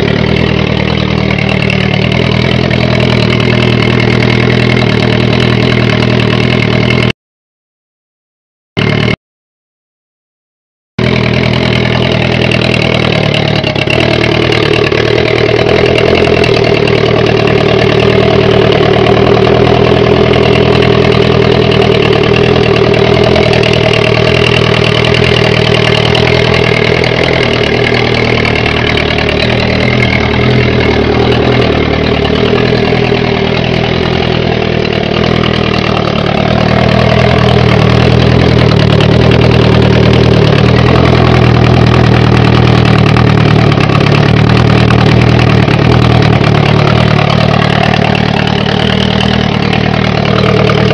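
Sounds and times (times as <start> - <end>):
motorcycle engine idling: 0.0 - 7.1, 8.8 - 9.2, 11.0 - 50.9.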